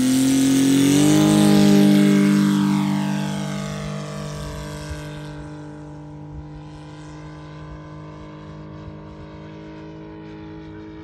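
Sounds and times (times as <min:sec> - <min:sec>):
model plane engine droning: 0:00.0 - 0:11.0.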